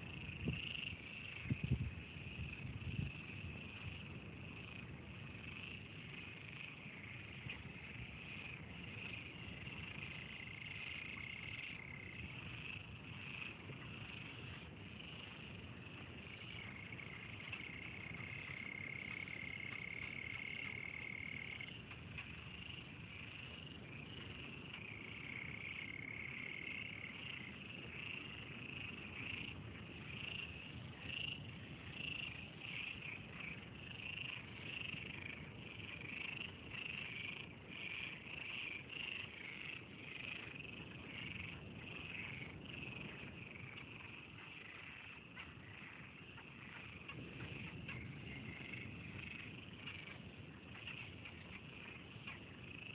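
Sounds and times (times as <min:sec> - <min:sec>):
chorus of frogs calling: 0:00.0 - 0:52.9.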